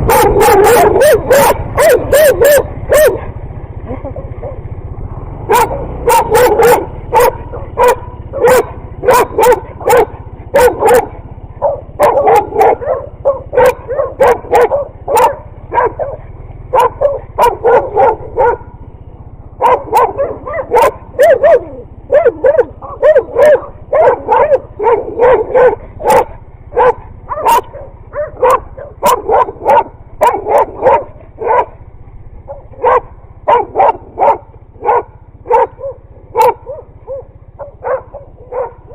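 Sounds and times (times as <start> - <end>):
dog barking: 0.0 - 4.8, 5.4 - 18.9, 19.5 - 38.9.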